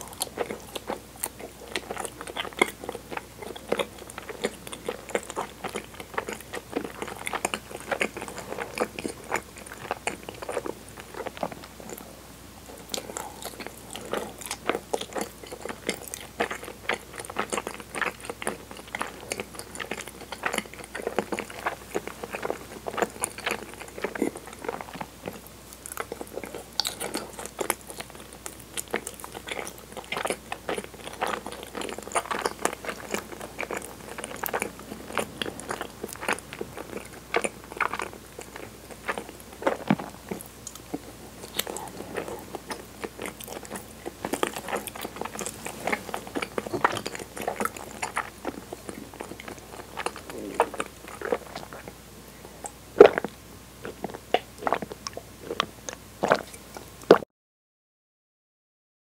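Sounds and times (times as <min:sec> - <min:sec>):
chewing sticky food: 0:00.0 - 0:57.2.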